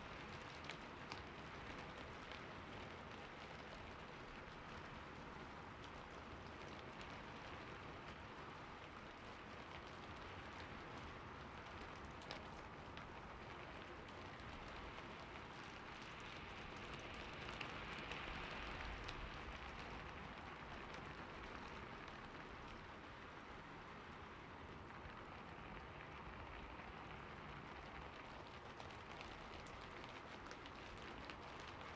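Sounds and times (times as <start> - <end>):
rain falling on a roof: 0.0 - 31.9.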